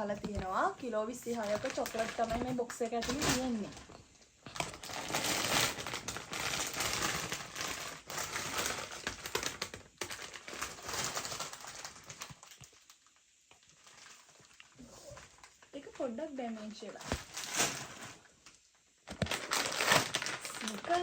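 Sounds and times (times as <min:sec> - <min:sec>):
plastic wrappers crinkling: 0:00.0 - 0:21.0.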